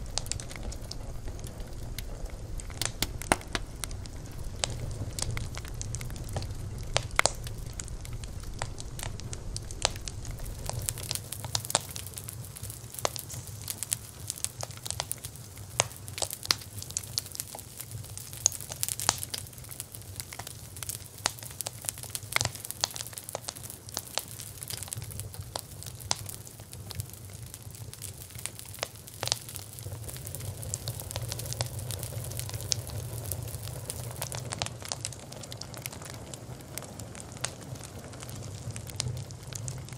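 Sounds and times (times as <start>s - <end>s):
flames rumbling and hissing: 0.0s - 39.9s
wood crackling and popping: 0.0s - 39.9s.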